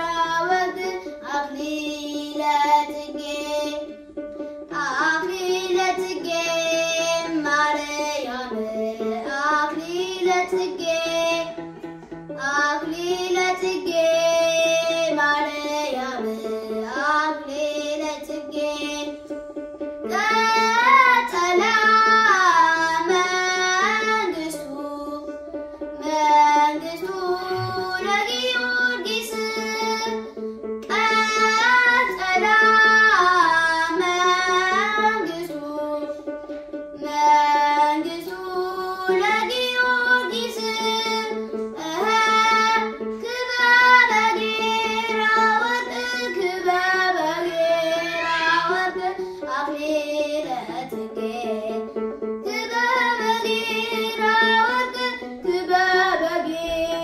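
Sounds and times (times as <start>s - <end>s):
boy singing: 0.0s - 4.0s, 4.7s - 11.6s, 12.4s - 36.4s, 37.0s - 57.0s
plucked lyre notes: 0.0s - 57.0s.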